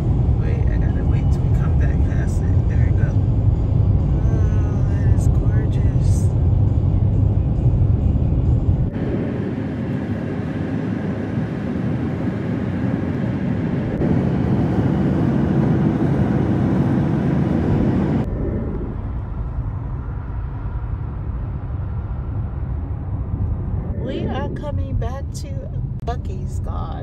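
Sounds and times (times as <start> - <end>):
road and tyre rumble: 0.0 - 27.0
wind noise: 0.0 - 27.0.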